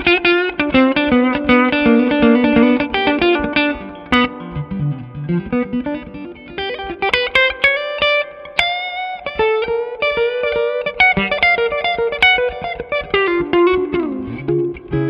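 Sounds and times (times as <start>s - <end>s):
electric guitar lead line: 0.0s - 15.0s.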